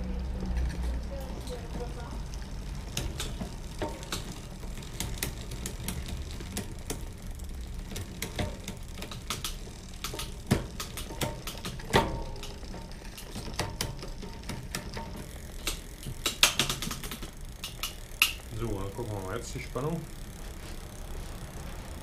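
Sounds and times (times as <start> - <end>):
bicycle chain clicking over sprockets: 0.0 - 22.0.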